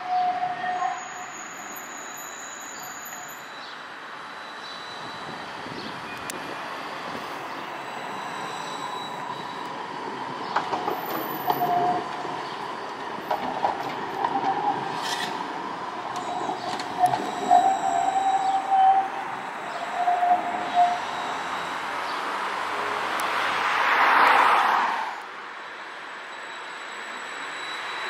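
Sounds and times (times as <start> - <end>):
tram wheels squealing: 0.0 - 22.4, 24.8 - 28.0
tram whine: 0.0 - 23.5, 24.7 - 28.0.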